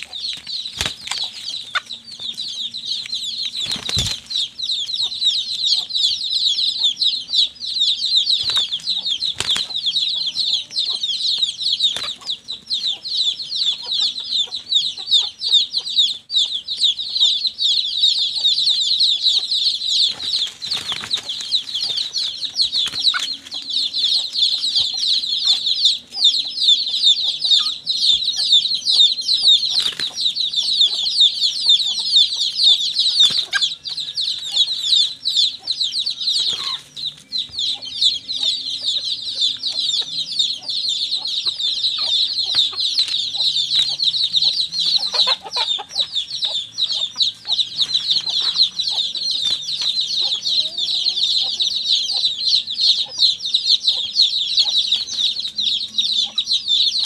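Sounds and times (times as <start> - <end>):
chickens clucking: 0.0 - 57.0
high-pitched chirping: 0.0 - 57.0.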